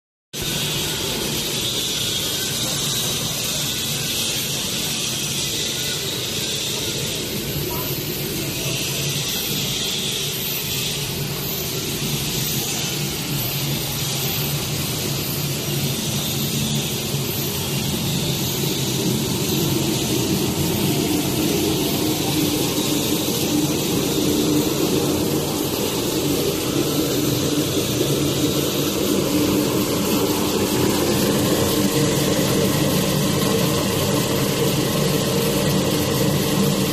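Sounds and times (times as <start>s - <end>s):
machinery hum and whir: 0.4s - 36.9s.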